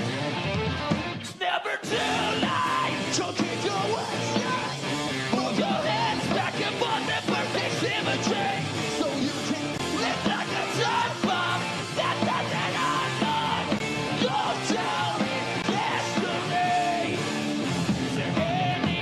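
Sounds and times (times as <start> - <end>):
bass guitar: 0.0 - 19.0
drums: 0.0 - 19.0
electric guitars: 0.0 - 19.0
person singing into microphone: 1.8 - 17.2.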